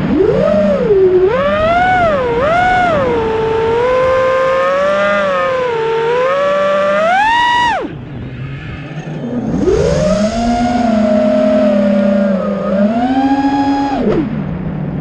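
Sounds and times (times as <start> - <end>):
quadcopter motors whining: 0.0 - 14.4.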